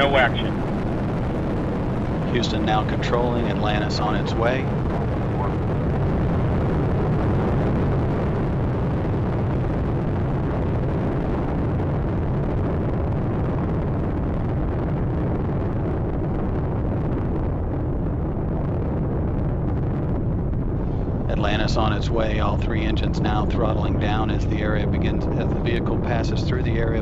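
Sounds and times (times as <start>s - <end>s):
deep rocket engine rumble: 0.0s - 27.0s.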